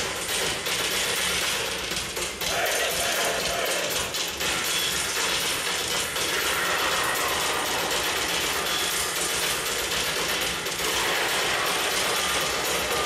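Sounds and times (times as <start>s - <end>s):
mechanical clatter over loudspeakers: 0.0s - 13.0s.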